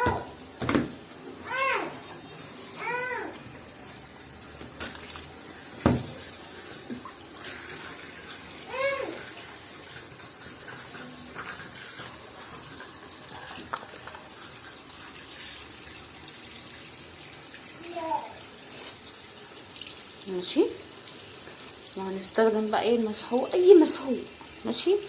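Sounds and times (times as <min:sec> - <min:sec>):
water running from a hose into a tub: 0:00.0 - 0:25.0.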